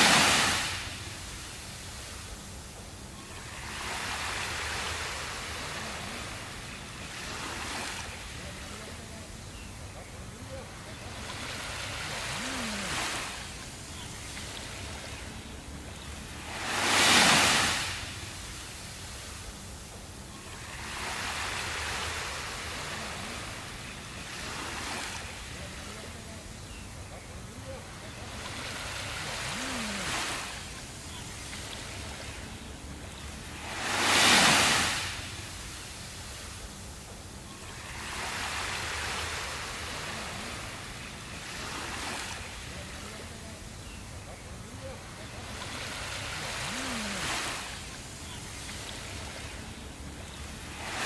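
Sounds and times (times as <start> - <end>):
hiss of surf: 0.0 - 51.0
small waves washing onto sand: 0.0 - 51.0.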